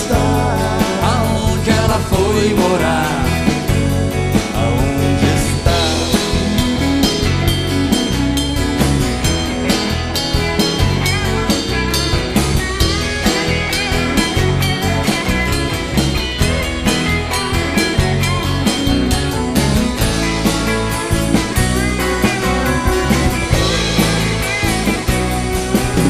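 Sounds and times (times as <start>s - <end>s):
bass: 0.0s - 26.0s
drum kit beat: 0.0s - 26.0s
electric guitar: 0.0s - 26.0s.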